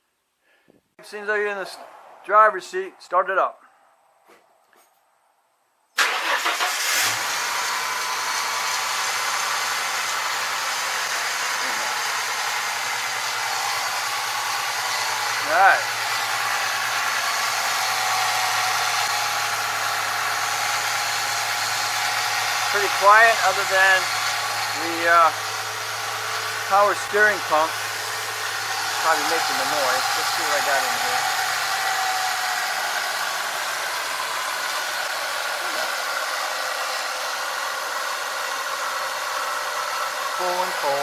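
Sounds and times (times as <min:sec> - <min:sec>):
car engine idling: 0:06.0 - 0:41.0
power steering pump whine: 0:06.0 - 0:41.0.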